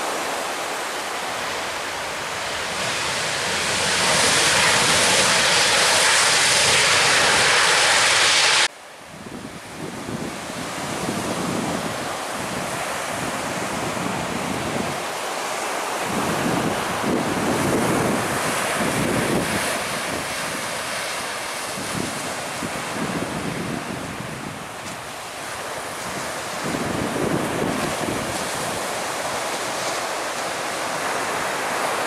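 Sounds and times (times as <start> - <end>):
surf washing: 0.0 - 32.0
wind buffeting microphone: 1.8 - 15.2, 16.0 - 31.4.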